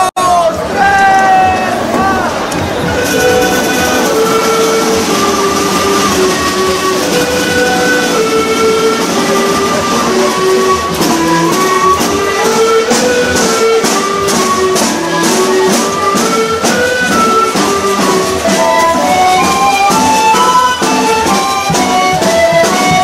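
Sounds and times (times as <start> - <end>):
instrumental music with steady beat: 2.5 - 23.0.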